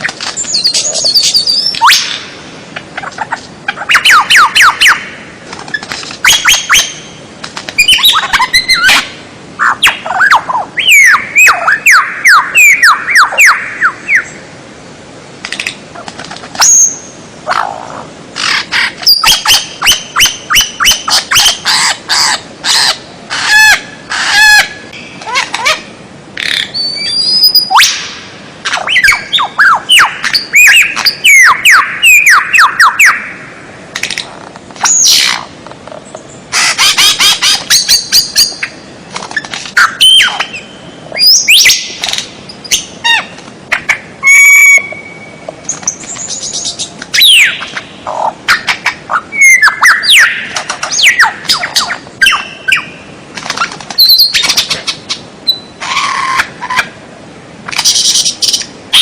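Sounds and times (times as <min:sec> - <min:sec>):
songbird singing: 0:00.0 - 0:14.7, 0:15.4 - 0:57.0, 0:57.7 - 0:59.0.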